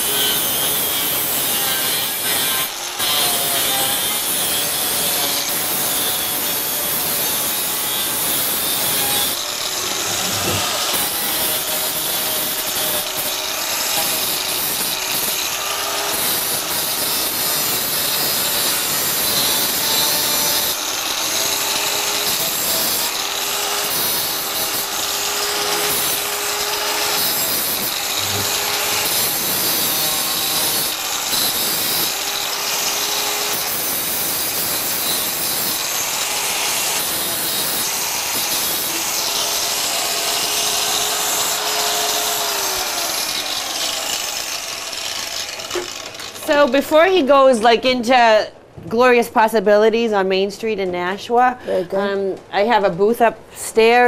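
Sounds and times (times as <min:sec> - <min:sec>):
angle grinder grinding metal: 0:00.0 - 0:47.7.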